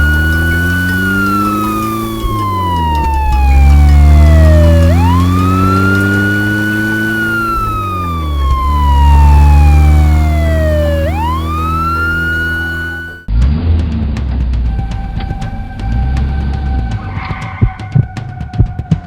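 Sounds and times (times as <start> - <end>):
wailing siren: 0.0 - 13.3, 14.7 - 19.0
low engine: 0.0 - 19.0.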